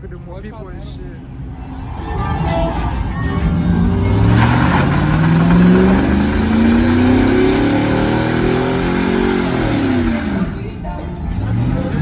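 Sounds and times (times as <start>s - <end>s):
vehicle engine revving hard: 1.1s - 12.0s.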